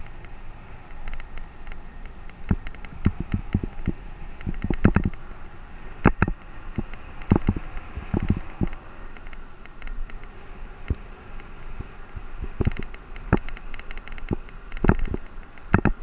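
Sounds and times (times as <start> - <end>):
wind rush over microphone: 0.0 - 16.0
bicycle knocks and rattles: 1.0 - 5.2, 6.0 - 11.0, 12.2 - 16.0.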